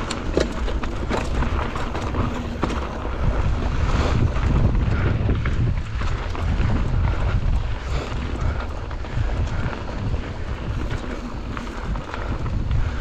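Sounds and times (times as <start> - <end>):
bike knocks and rattles: 0.0 - 13.0
wind rumbling on microphone: 0.0 - 13.0.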